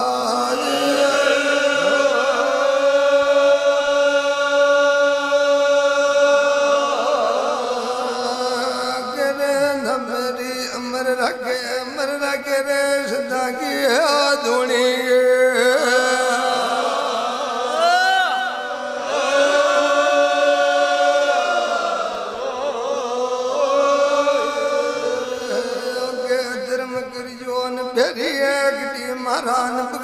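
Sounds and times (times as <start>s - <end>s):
devotional chant with held notes: 0.0s - 30.0s.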